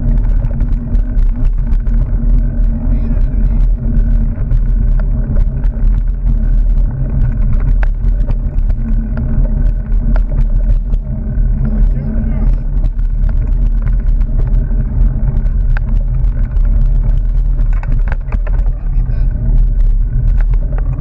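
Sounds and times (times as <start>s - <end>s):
bike clicks and knocks over bumps: 0.0s - 21.0s
low rumble of vibration and wind: 0.0s - 21.0s.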